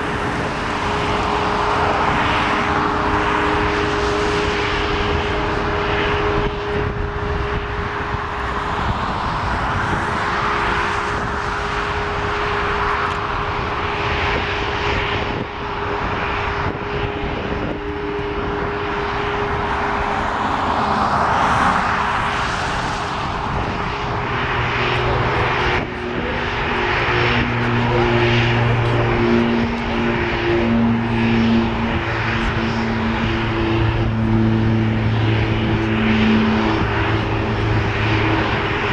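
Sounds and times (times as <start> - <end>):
jet engines whooshing rumble: 0.0 - 38.9
low pulsing drone: 0.0 - 38.9.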